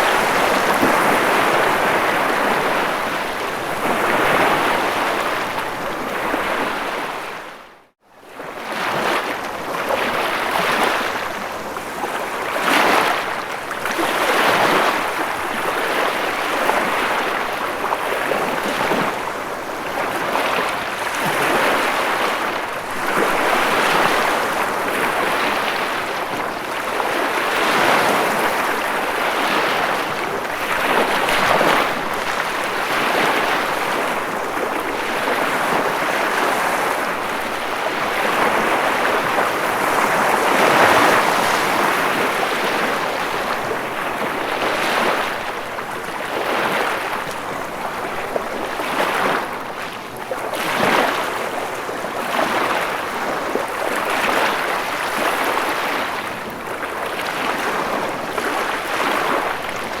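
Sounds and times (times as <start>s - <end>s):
ocean waves breaking: 0.0s - 7.5s, 8.5s - 60.0s.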